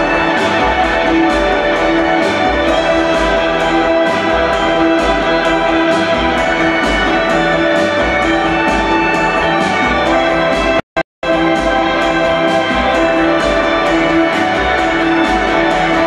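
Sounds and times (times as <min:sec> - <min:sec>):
pulsing bass: 0:00.0 - 0:16.0
synthesizer chords: 0:00.0 - 0:16.0.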